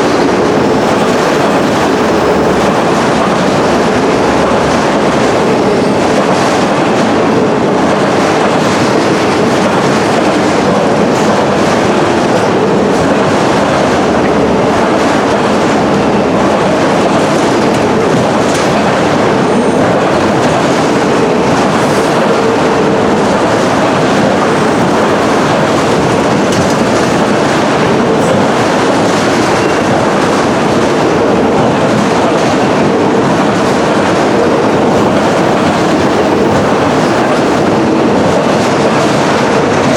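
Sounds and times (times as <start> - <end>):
clickety-clack of rail joints: 0.0 - 39.9
train wheels rumbling on rail: 0.0 - 39.9.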